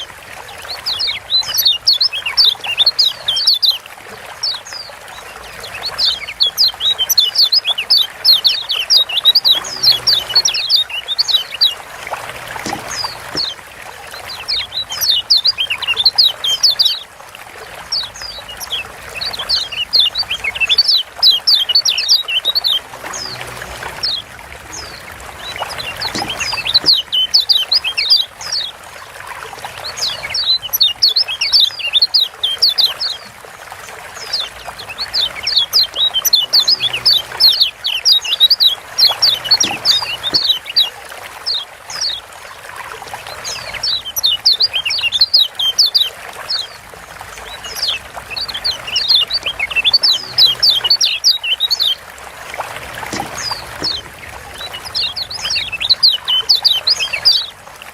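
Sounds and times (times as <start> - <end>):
bird chirp calls: 0.0 - 3.8, 4.4 - 17.1, 17.8 - 28.8, 29.6 - 33.3, 34.2 - 42.3, 43.1 - 57.6.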